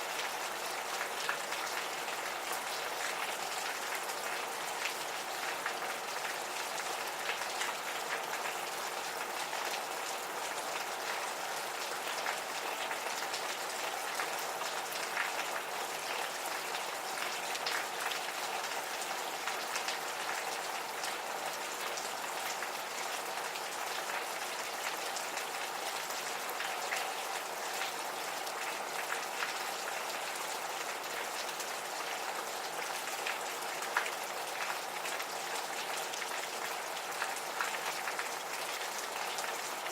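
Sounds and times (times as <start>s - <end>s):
gentle steady rain: 0.0s - 39.9s.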